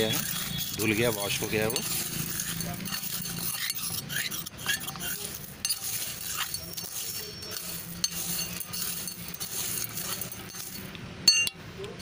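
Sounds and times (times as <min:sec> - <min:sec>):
spoon scraping stones in metal bowl: 0:00.0 - 0:11.6.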